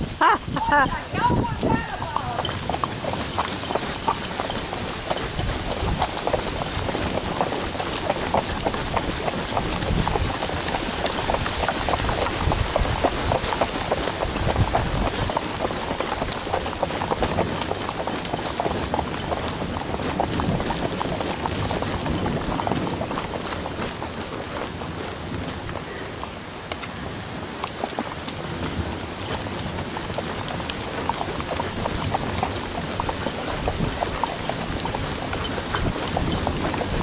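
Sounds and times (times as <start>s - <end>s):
horse hooves on wet dirt: 0.0s - 37.0s.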